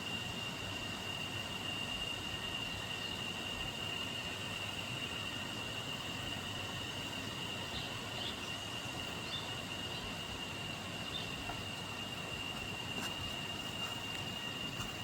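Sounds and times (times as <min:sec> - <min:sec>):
constant hiss: 0:00.0 - 0:15.0
high-pitched insect drone: 0:00.0 - 0:15.0
faint chirps: 0:01.4 - 0:15.0.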